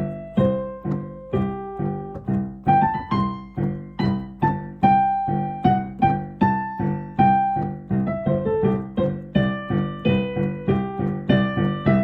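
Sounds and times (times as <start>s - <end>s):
piano-like keyboard music: 0.0s - 12.0s.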